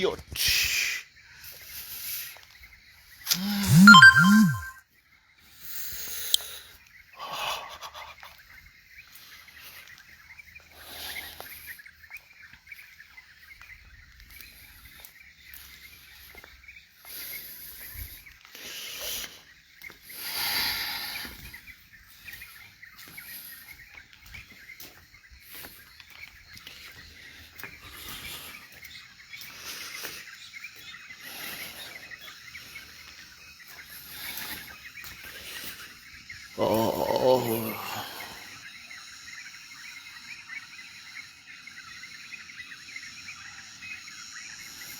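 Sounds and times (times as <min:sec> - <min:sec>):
birds calling and chirping: 0:06.8 - 0:44.9.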